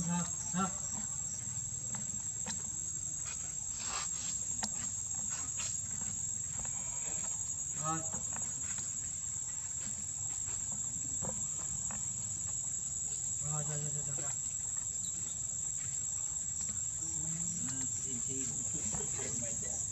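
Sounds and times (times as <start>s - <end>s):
high-pitched insect drone: 0.0s - 19.9s.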